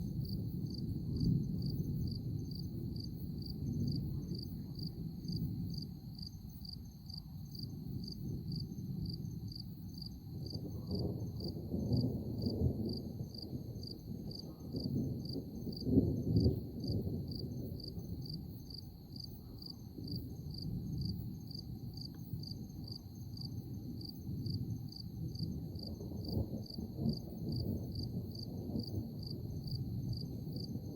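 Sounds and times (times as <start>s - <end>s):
thunder rumbling: 0.0s - 23.0s, 23.6s - 30.9s
insects chirping: 0.0s - 30.9s.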